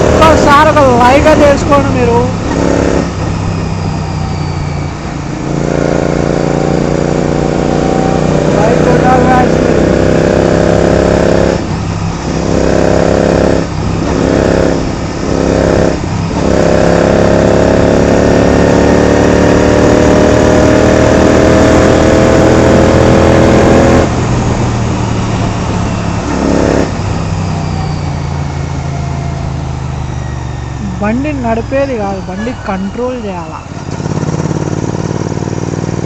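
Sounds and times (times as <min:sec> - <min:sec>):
motorcycle engine at hard throttle: 0:00.0 - 0:36.0.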